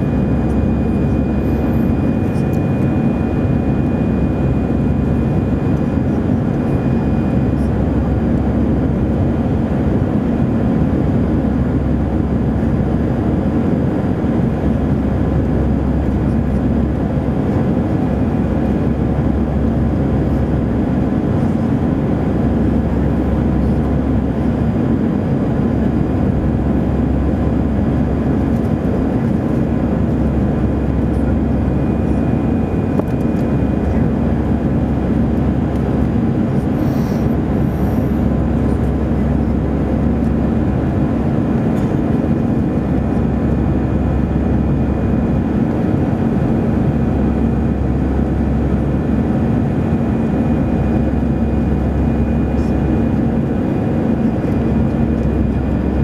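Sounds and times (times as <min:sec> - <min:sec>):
jet engines and airflow rushing: 0:00.0 - 0:56.0.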